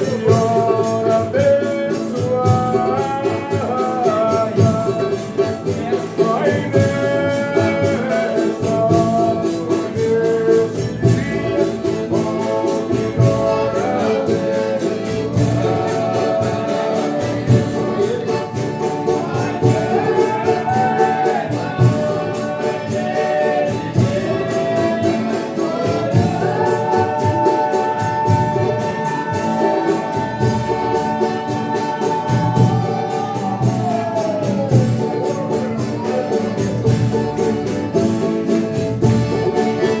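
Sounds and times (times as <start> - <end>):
accompanying instruments: 0.0 - 40.0
group singing in harmony: 0.0 - 40.0
tambourine: 0.0 - 40.0.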